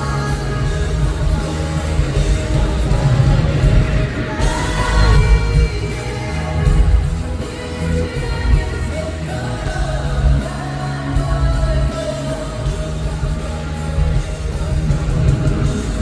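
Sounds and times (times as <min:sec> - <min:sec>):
live pop-rock band: 0:00.0 - 0:16.0
man singing: 0:00.0 - 0:16.0.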